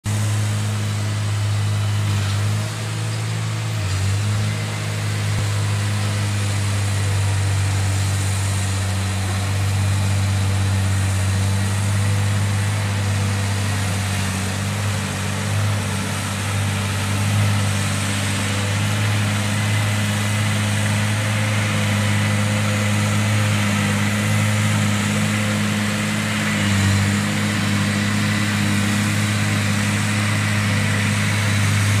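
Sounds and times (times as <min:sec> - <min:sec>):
heavy diesel engines droning: 0:00.0 - 0:32.0.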